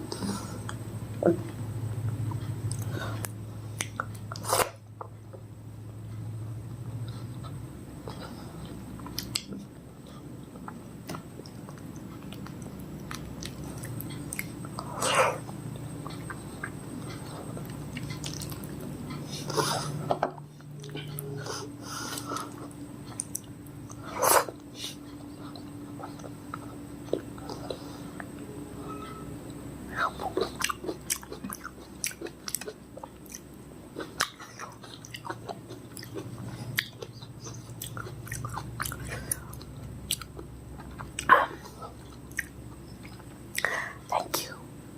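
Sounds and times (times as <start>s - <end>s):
person chewing fruit: 0.0s - 6.3s, 6.9s - 44.6s.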